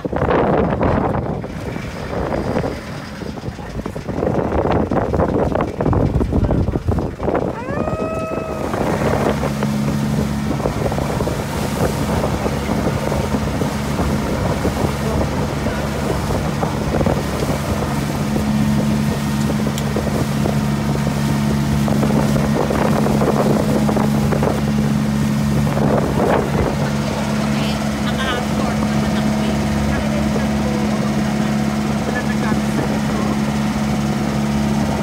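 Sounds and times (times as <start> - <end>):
boat engine droning: 0.0 - 35.0
wind buffeting microphone: 0.0 - 35.0.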